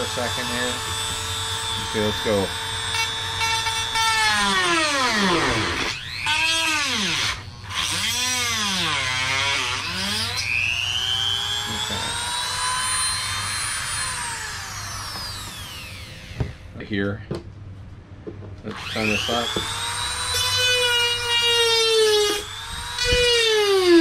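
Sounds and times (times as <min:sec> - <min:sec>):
rotary tool whining: 0:00.0 - 0:16.7, 0:18.7 - 0:24.0.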